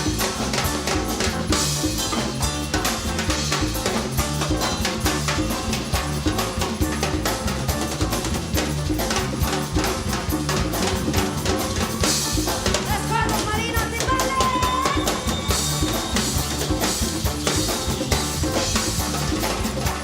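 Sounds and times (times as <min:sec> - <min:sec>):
rock band playing: 0:00.0 - 0:20.0
sliding lead melody: 0:00.0 - 0:20.0.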